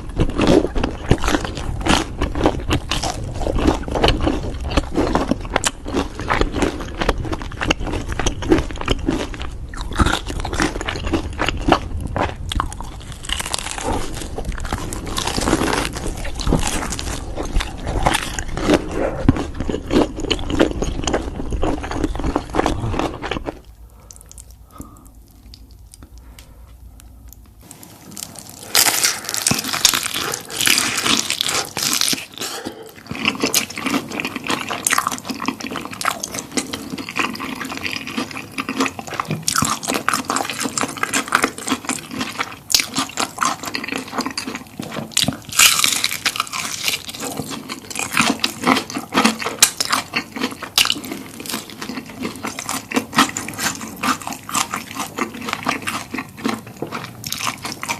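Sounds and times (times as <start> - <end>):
crunching fried chicken: 0.0 - 26.4, 27.2 - 57.9
wet chewing and smacking: 0.0 - 57.9.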